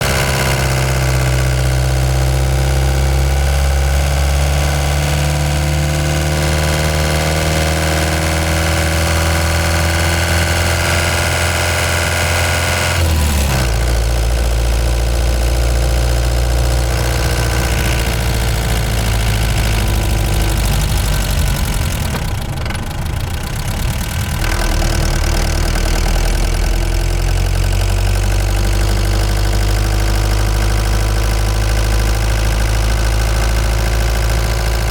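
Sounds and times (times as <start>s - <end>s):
van engine running: 0.0s - 34.9s.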